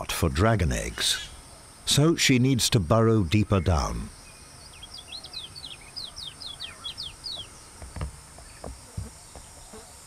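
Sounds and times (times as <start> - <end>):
crickets chirping: 0.0 - 10.0
small bird singing: 0.7 - 10.0.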